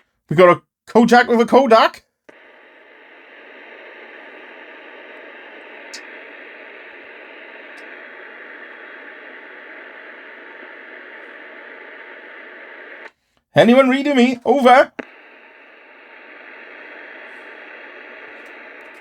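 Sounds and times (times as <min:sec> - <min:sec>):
radio static hiss: 0:01.0 - 0:19.0.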